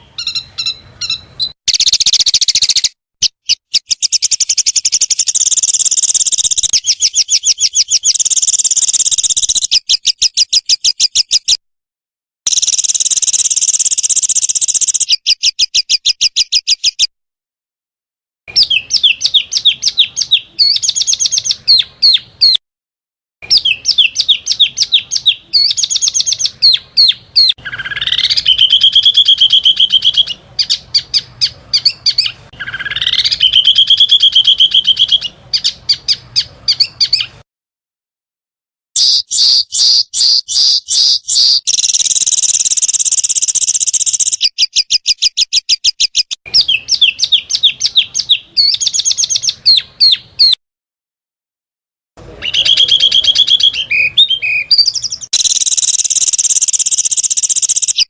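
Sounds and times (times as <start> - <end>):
songbirds chirping and trilling: 0.0 - 11.6, 12.5 - 17.1, 18.5 - 22.6, 23.4 - 37.4, 39.0 - 50.6, 52.2 - 58.0.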